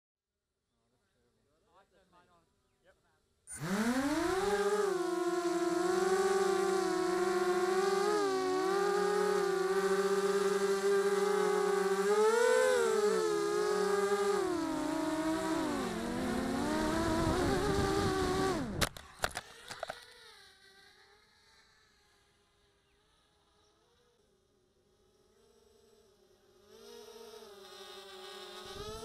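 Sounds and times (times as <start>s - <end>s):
drone motors whining: 3.5s - 23.8s, 25.4s - 29.0s.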